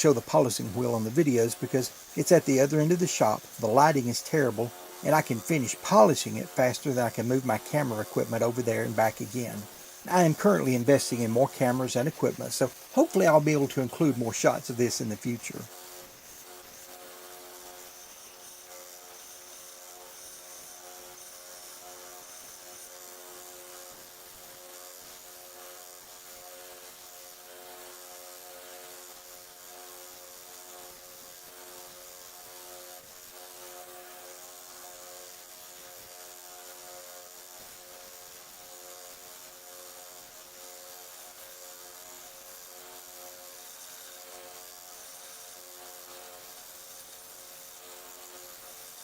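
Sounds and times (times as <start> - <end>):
belt sander buzzing: 0.0 - 25.6, 32.8 - 49.0.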